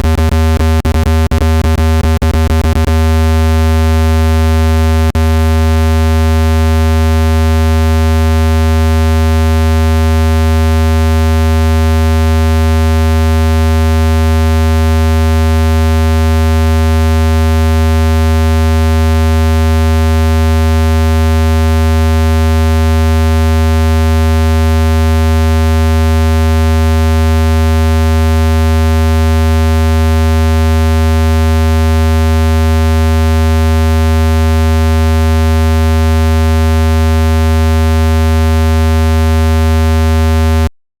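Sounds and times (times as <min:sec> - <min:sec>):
low synthesized buzz: 0:00.0 - 0:40.7.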